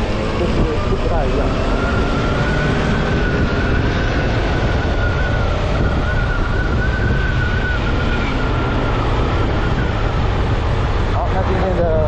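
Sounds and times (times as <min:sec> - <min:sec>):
motorcycle engine and road noise: 0:00.0 - 0:12.0.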